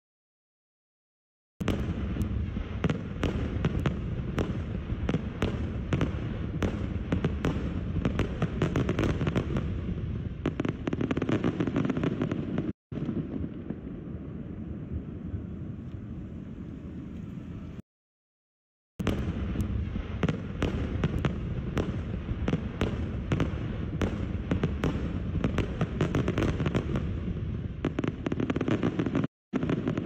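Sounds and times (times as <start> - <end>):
fireworks bangs and crackles: 1.6 - 17.7, 19.0 - 30.0.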